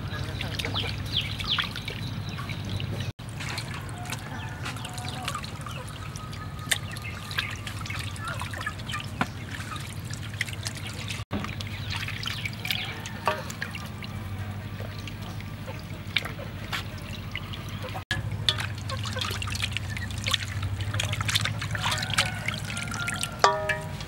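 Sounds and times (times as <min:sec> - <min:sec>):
water dripping and splashing: 0:00.0 - 0:24.0.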